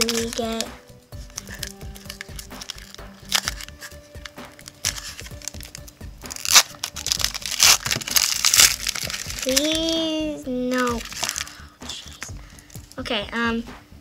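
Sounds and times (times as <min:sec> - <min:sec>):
wrapper tearing and crinkling: 0:00.0 - 0:10.1, 0:10.7 - 0:12.3.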